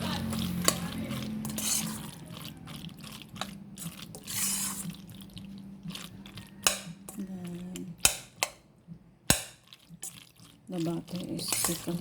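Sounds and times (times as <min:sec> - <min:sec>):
squelchy stirring in a pot: 0:00.0 - 0:12.0.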